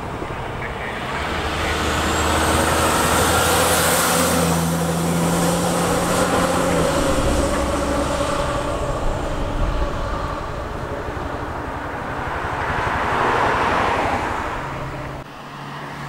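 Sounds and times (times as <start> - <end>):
diesel truck engine drone: 0.0 - 16.0
tyre and road noise: 0.0 - 16.0.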